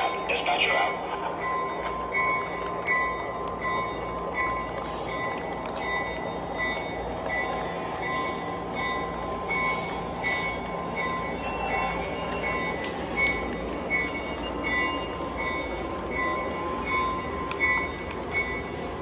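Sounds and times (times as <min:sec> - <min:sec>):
high bell ringing: 0:00.0 - 0:19.0.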